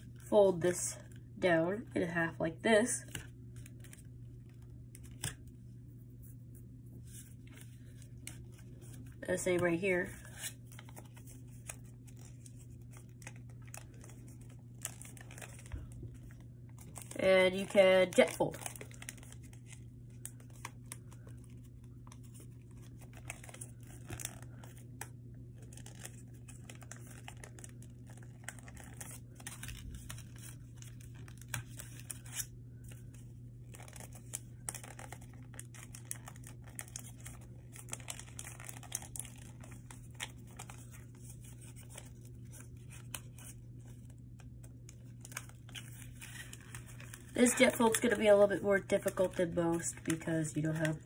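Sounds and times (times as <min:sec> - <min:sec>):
steady low hum: 0:00.0 - 0:51.0
paper crinkling and rustling: 0:03.0 - 0:51.0.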